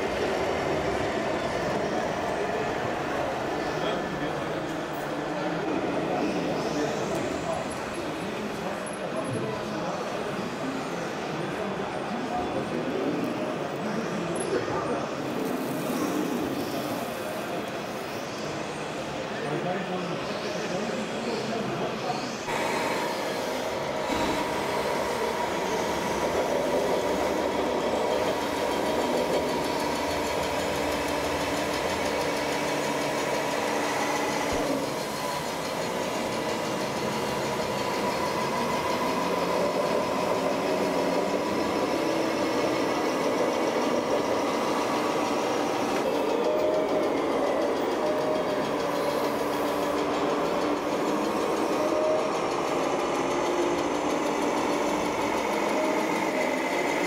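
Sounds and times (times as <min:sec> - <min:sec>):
model truck engines running: 0:00.0 - 0:57.0.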